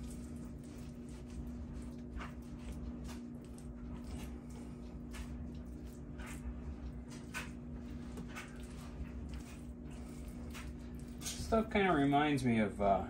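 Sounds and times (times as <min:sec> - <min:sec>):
hand squishing wet paste: 0:00.0 - 0:12.1
steady low hum: 0:00.0 - 0:13.0.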